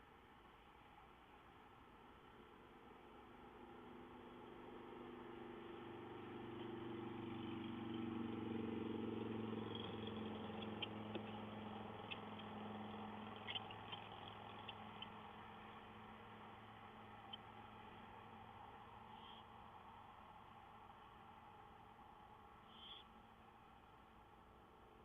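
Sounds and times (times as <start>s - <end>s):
distant vehicle engine hum: 0.0s - 25.0s.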